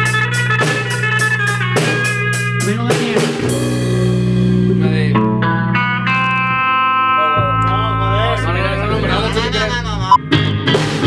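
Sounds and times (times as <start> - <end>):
electric bass: 0.0 - 11.0
electric guitar chords: 0.0 - 11.0.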